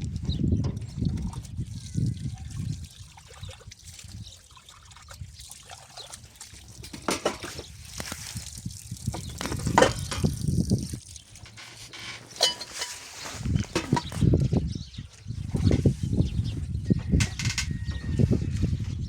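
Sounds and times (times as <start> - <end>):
water trickling and splashing: 0.0 - 16.8.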